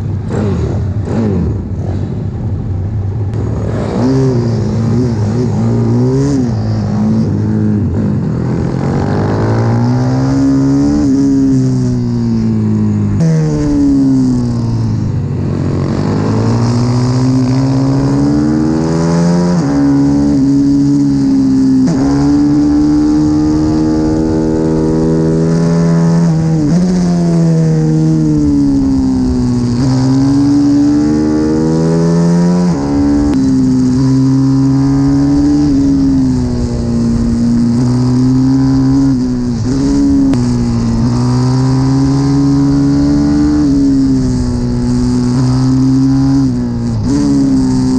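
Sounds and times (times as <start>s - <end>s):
motorbike engine revving: 0.0s - 47.9s
wind noise: 0.0s - 47.9s.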